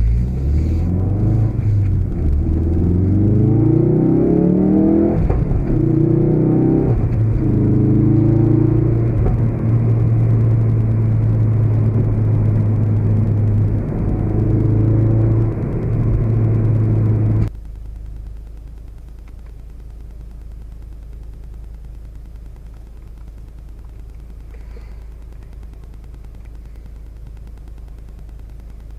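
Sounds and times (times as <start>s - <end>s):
car engine droning: 0.0s - 28.9s
low steady hum: 0.0s - 28.9s.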